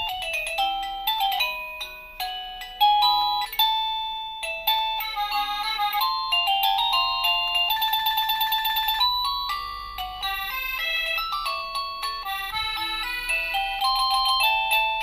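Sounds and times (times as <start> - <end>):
doorbell chime melody: 0.0 - 15.0.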